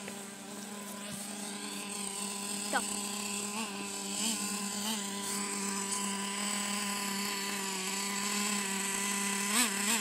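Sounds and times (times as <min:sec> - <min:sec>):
two-stroke engine idling: 0:00.0 - 0:10.0.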